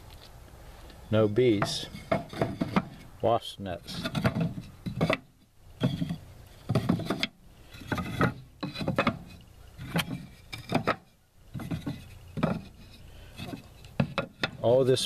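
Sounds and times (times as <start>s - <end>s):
wooden bars knocking and rubbing: 1.5s - 3.1s, 3.8s - 15.0s.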